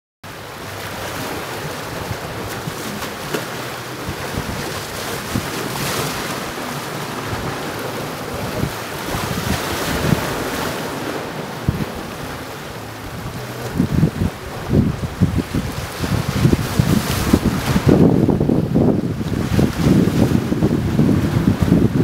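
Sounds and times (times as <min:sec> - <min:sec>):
sea waves splashing: 0:00.2 - 0:22.0
wind buffeting microphone: 0:00.4 - 0:22.0.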